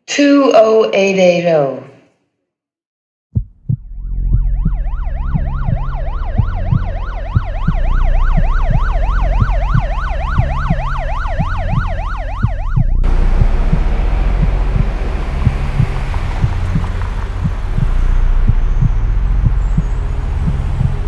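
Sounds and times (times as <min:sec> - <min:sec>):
low car rumble: 0:04.0 - 0:21.0
police siren yelping: 0:04.0 - 0:21.0.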